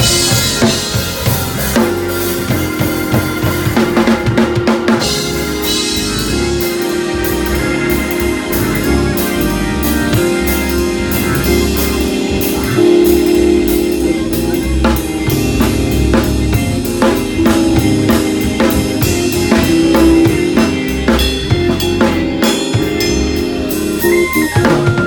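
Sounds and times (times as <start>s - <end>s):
drum kit playing fast: 0.0s - 25.0s
organ and keyboard chords: 0.0s - 25.0s.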